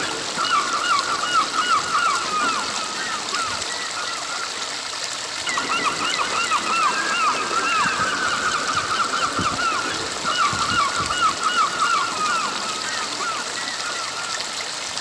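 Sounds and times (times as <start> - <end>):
birds chirping: 0.0 - 4.6, 5.4 - 14.6
stream rushing over rocks: 0.0 - 15.0.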